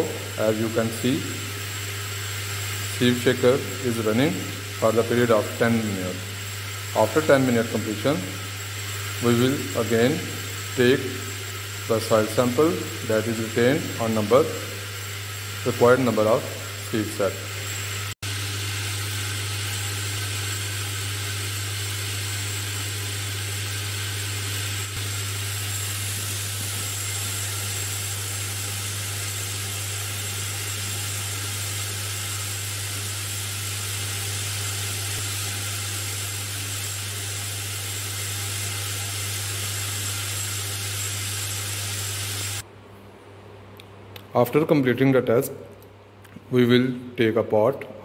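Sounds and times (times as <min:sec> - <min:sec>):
sieve shaker humming and hissing: 0:00.0 - 0:42.6.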